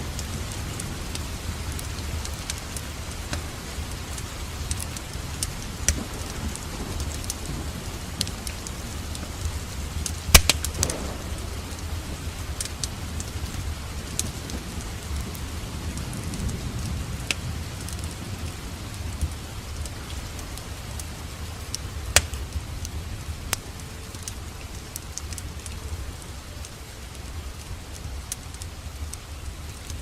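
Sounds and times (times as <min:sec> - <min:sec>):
fire crackling and popping: 0:00.0 - 0:30.0
rain rushing: 0:00.0 - 0:30.0.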